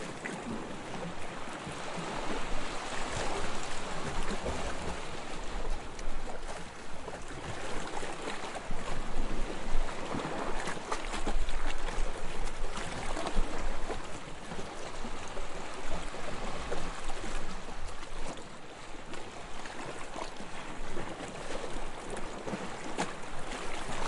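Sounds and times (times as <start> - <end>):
soft waves lapping on shore: 0.0 - 24.0.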